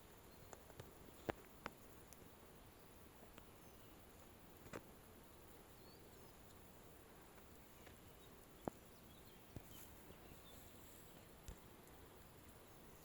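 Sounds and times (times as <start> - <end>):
faint bird chirps: 0.0 - 1.3, 2.5 - 4.4, 5.4 - 13.0
steady low hiss: 0.0 - 13.0.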